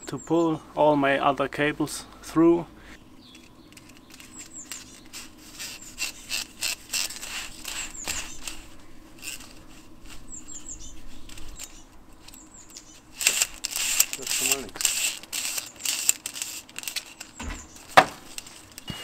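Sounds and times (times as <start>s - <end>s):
small bird chirping: 3.0s - 19.0s
wire scraping in pipe: 3.3s - 19.0s.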